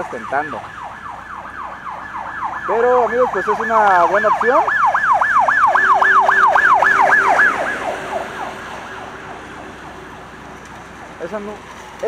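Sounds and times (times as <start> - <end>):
siren yelping: 0.0 - 11.1
traffic on wet road: 0.0 - 12.0.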